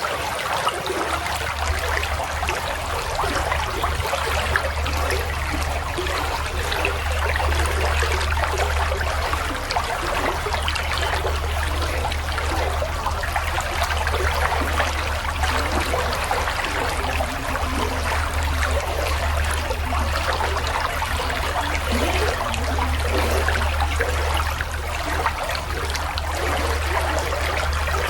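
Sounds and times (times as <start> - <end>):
stream water rushing: 0.0 - 28.0
low rumble: 1.4 - 28.0.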